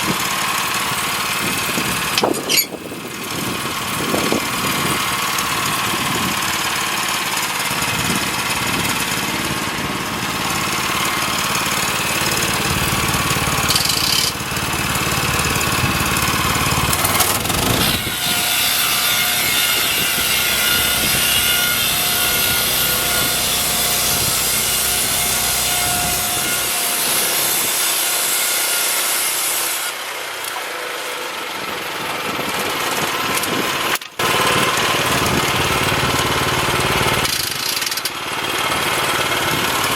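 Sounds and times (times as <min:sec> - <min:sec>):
gas engine running under load: 0:00.0 - 0:27.9, 0:31.4 - 0:39.9
saw blade cutting log: 0:00.0 - 0:31.6, 0:32.5 - 0:39.9.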